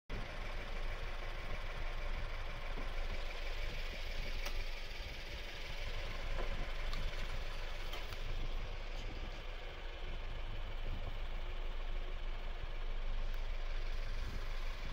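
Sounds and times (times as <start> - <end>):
machine low rumble and hum: 0.1 - 14.9.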